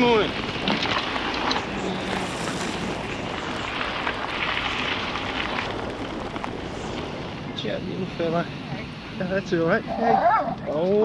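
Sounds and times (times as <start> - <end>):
bicycle road noise: 0.0 - 11.0
rushing wind: 0.0 - 11.0.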